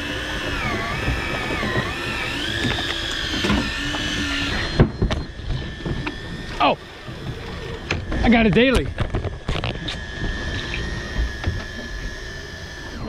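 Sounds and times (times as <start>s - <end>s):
fishing reel motor whining: 0.0s - 13.0s.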